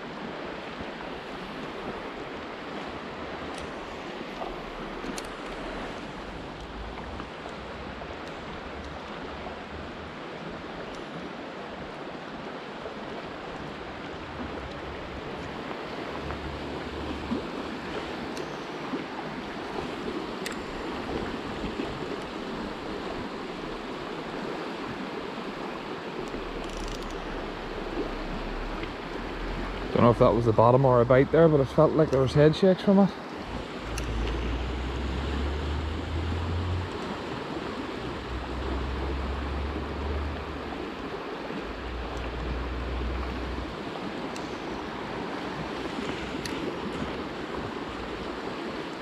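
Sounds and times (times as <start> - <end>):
river rushing over riffles: 0.0 - 49.0.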